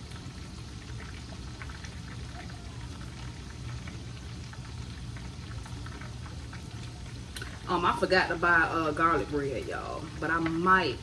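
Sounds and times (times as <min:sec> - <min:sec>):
chicken frying in oil: 0:00.0 - 0:11.0.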